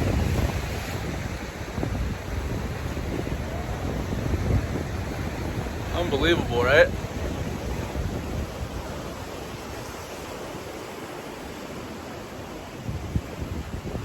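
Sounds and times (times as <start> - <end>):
ocean surf: 0.0 - 14.0
wind gusts: 0.0 - 14.0.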